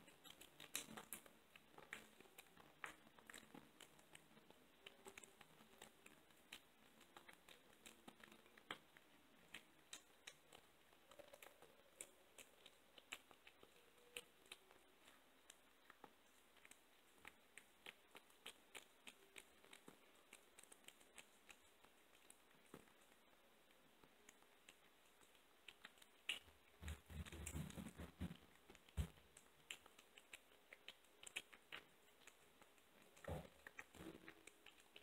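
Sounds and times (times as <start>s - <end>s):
kitten chewing: 0.0s - 35.0s.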